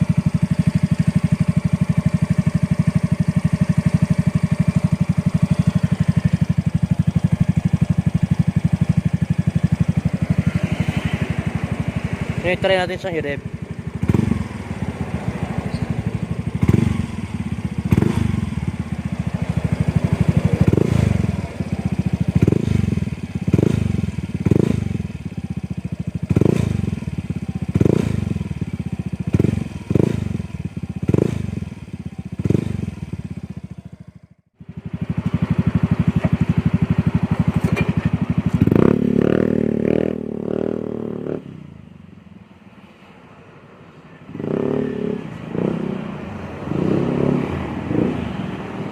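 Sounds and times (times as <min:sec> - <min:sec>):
motorcycle engine revving: 0:00.0 - 0:42.2, 0:44.3 - 0:48.9.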